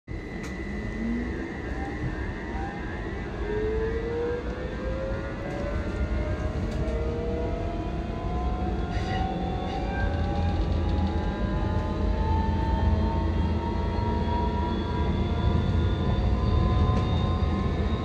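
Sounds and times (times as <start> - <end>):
wheels rumbling on rails: 0.1 - 18.0.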